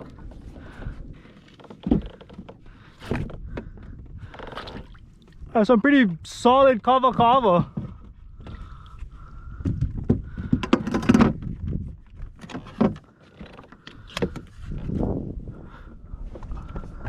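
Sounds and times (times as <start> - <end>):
knocks and thumps on a kayak: 0.0 - 5.5, 7.1 - 15.2.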